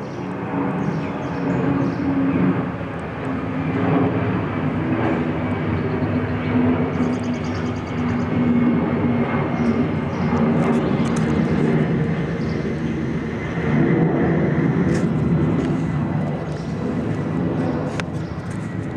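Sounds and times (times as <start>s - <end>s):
jet engines roaring: 0.0s - 18.9s.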